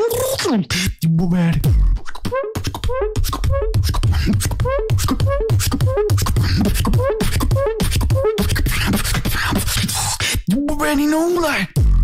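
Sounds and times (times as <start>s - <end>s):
breathy hissing beatbox: 0.0s - 10.5s
beatboxing bass kicks: 0.0s - 10.9s, 11.7s - 12.0s.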